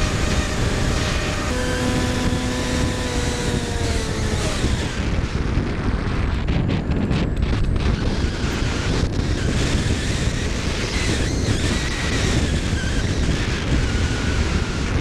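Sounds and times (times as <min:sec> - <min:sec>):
electric motor and propeller whine: 0:00.0 - 0:15.0
wind rushing over microphone: 0:00.0 - 0:15.0.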